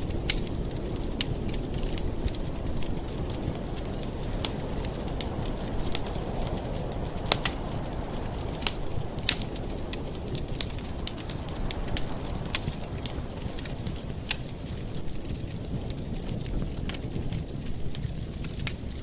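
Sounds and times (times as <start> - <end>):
campfire wood crackling: 0.0 - 19.0
low rush of flames: 0.0 - 19.0.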